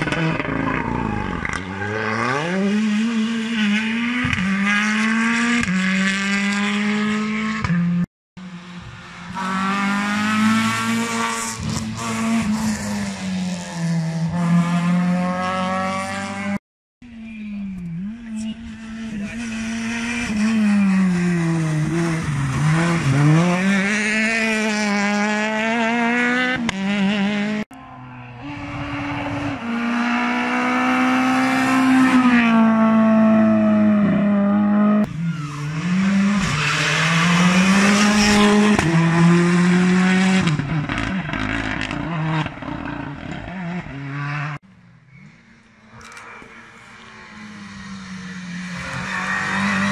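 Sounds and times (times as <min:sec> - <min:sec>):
rally car engines revving: 0:00.0 - 0:16.6, 0:17.3 - 0:49.9.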